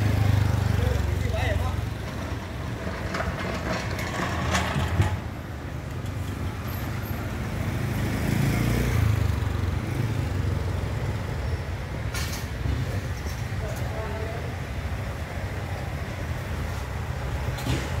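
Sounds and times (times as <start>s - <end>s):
scooters and cars passing: 0.0s - 18.0s.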